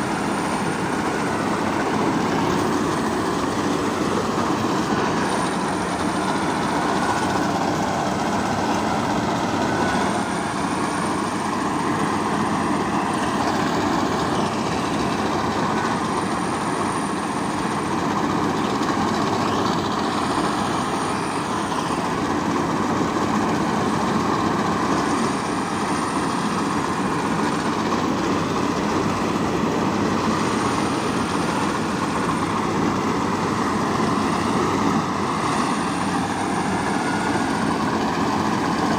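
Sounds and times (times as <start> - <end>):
faint high whine: 0.0 - 38.9
farm machinery running: 0.0 - 38.9.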